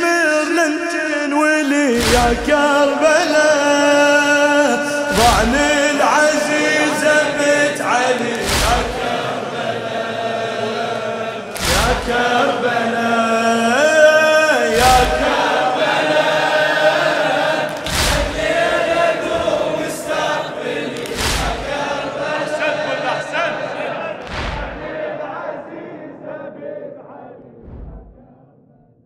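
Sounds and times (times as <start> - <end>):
men chanting in unison: 0.0 - 28.6.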